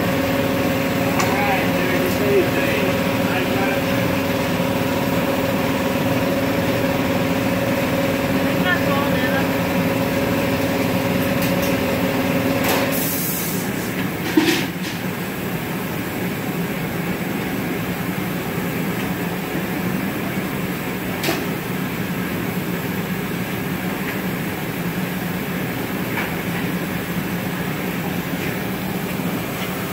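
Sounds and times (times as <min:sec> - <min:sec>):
furnace burners and fans roaring: 0:00.0 - 0:29.9.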